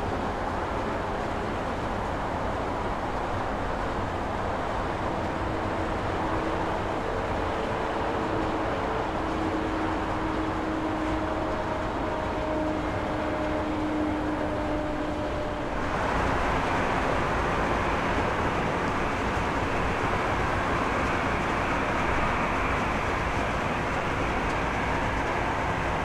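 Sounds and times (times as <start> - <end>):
jet engines humming: 4.0 - 26.0.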